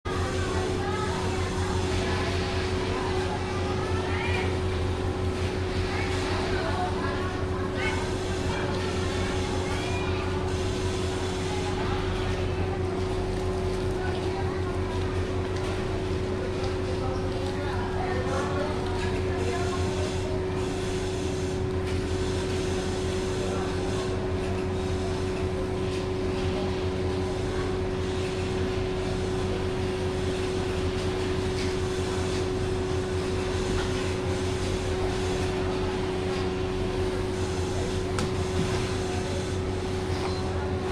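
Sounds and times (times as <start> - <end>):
sewing machine hum and whine: 0.0 - 40.9.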